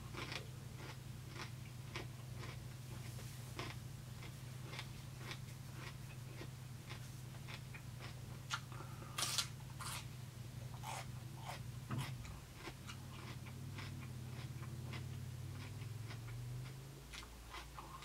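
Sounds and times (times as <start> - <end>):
low steady hum: 0.0 - 18.0
cucumber crunching: 0.1 - 10.1, 10.7 - 18.0
wet chewing clicks: 0.1 - 10.1, 10.7 - 18.0.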